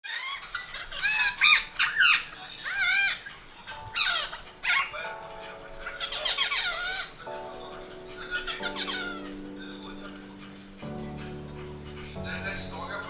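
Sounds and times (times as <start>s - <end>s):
parrots calling shrilly: 0.0s - 13.0s
soft background music: 0.2s - 13.0s.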